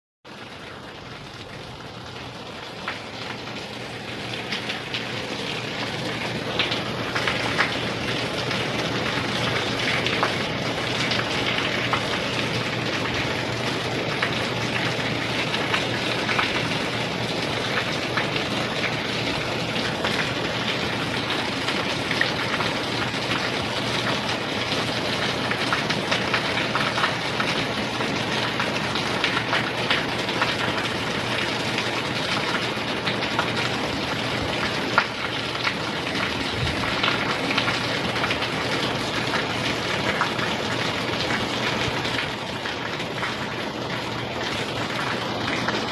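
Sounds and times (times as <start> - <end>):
rain drops ticking on a surface: 0.3 - 45.9.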